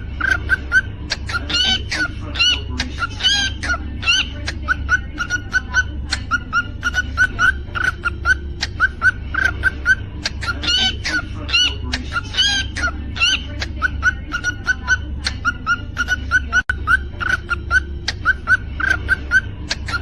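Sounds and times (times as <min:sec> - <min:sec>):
cockatiel chirping: 0:00.0 - 0:20.0
steady low hum: 0:00.0 - 0:20.0.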